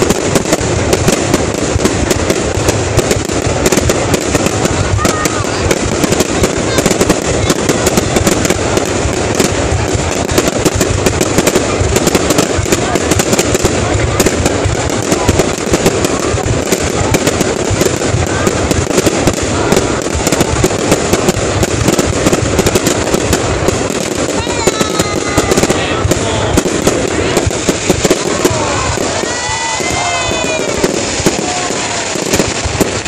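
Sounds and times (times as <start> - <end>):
crowd voices: 0.0 - 33.0
fireworks bangs and crackling: 0.0 - 33.0.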